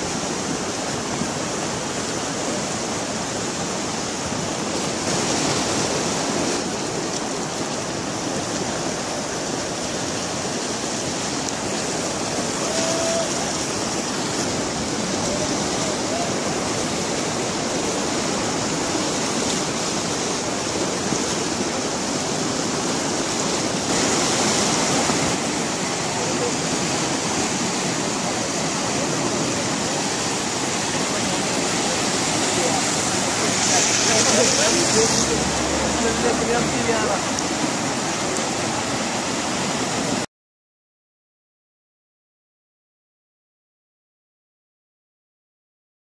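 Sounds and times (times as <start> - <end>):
flood water rushing and churning: 0.0 - 40.3.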